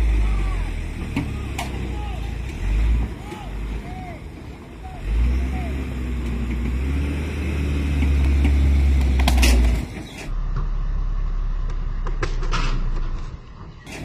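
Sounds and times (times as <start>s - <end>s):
diesel truck engine humming: 0.0s - 14.0s.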